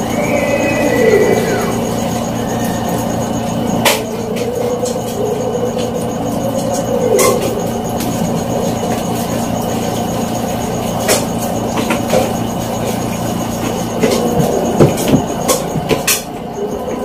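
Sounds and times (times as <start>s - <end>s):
spin-dryer motor humming: 0.0s - 17.0s.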